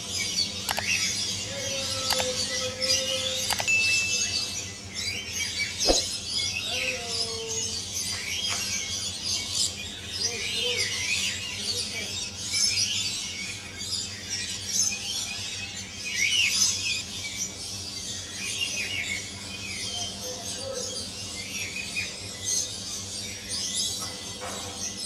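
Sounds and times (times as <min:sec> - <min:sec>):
lorikeets chattering: 0:00.1 - 0:25.0.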